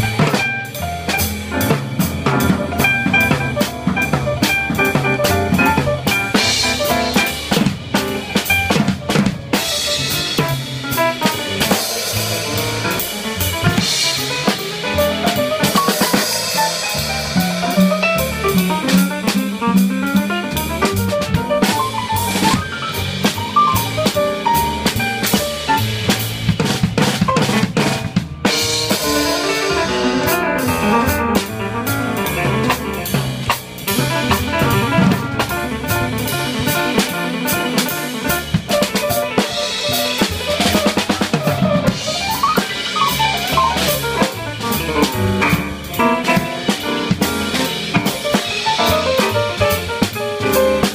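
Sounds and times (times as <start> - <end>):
band pitched notes: 0.0 - 50.9
jazz drum kit: 0.0 - 50.9.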